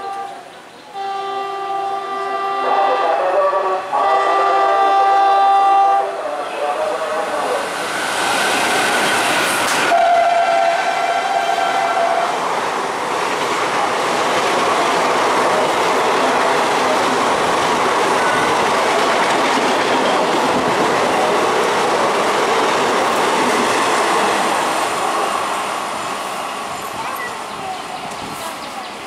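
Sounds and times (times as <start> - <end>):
train coaches rushing past: 0.0 - 29.0.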